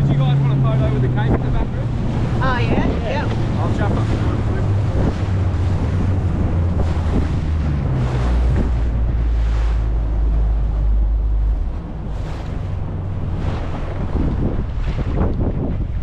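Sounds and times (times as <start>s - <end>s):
outboard motor running: 0.0s - 16.0s
sea noise: 0.0s - 16.0s
wind buffeting microphone: 0.0s - 16.0s.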